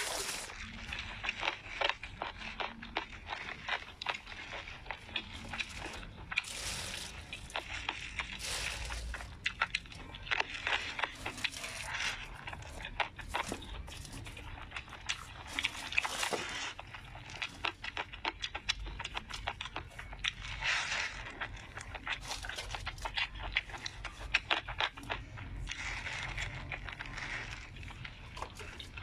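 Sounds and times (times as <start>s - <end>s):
chewing and lip-smacking: 0.0s - 29.0s.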